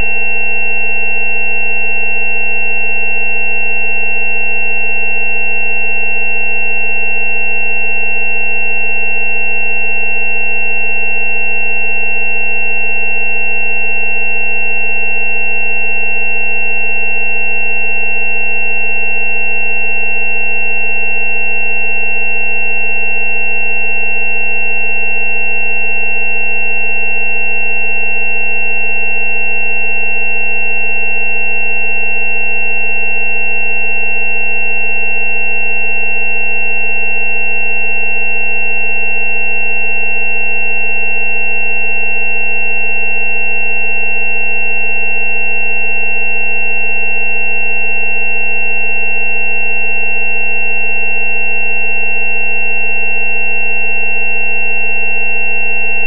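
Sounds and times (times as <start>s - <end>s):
high thin sine tone: 0.0s - 56.0s
low sine tone: 0.0s - 56.0s.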